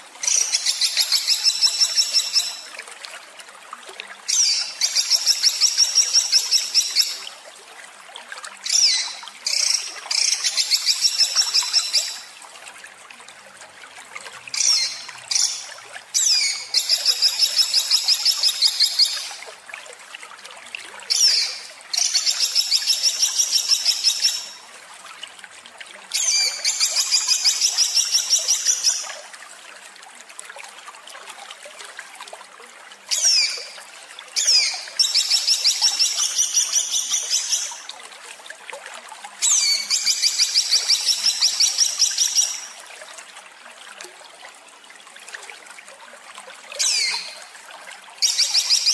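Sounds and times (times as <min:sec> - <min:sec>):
faint trickle of water: 0:00.0 - 0:48.9.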